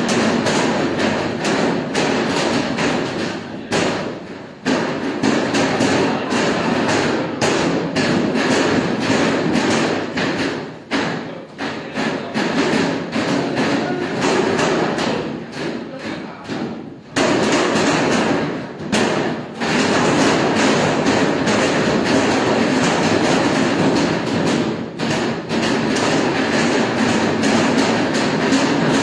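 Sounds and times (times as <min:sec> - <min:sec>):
background noise: 0:00.0 - 0:29.0
dough slapping on metal table: 0:00.0 - 0:29.0.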